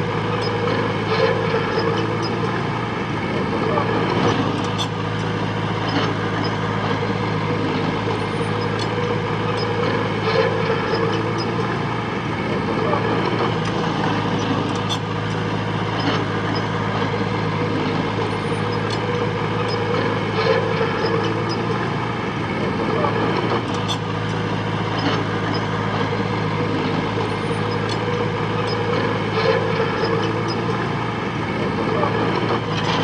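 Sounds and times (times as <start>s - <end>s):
heavy machinery diesel engine: 0.0s - 33.0s.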